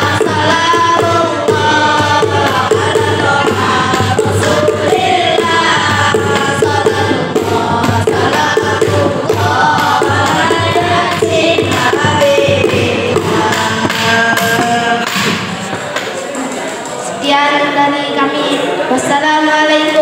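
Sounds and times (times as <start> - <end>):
boys singing together: 0.0 - 20.0.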